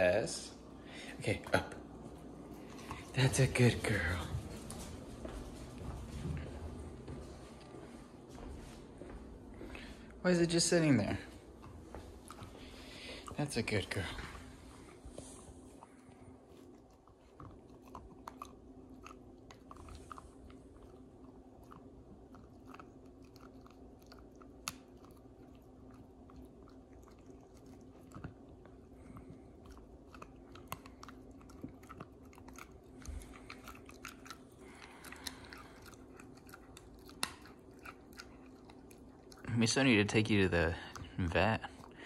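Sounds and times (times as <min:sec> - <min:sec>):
puppy chewing a treat: 0:00.8 - 0:42.0.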